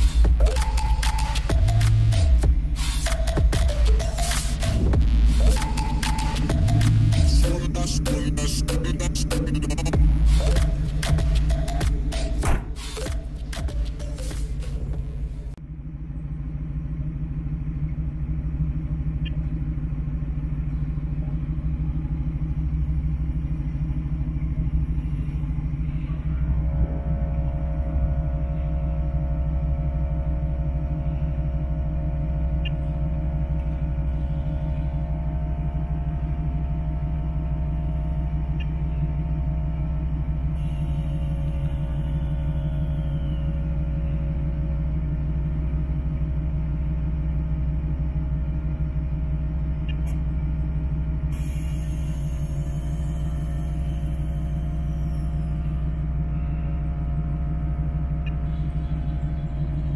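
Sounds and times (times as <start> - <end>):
compressor whine: 0.0 - 59.9
pickup truck idling: 0.0 - 59.9.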